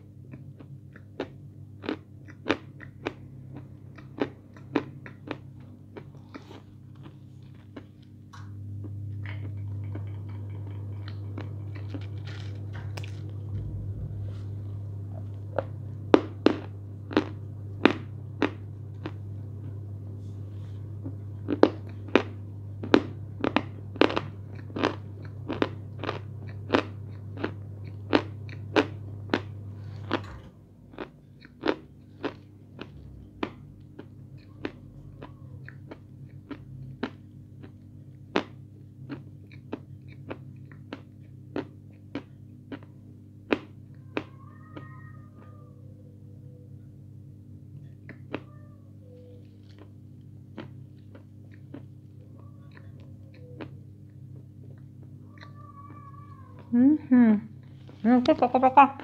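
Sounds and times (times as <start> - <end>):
person chewing crunchy food: 0.0 - 8.2, 8.8 - 19.8, 21.0 - 30.3, 30.9 - 45.0, 48.0 - 55.9
steady low hum: 0.0 - 59.0.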